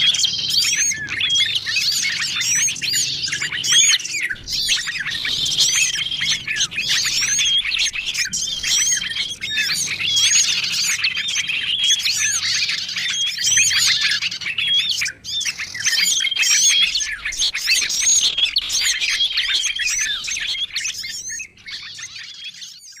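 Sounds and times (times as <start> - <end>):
rapid bird trills: 0.0 - 23.0
songbirds chirping: 0.0 - 23.0.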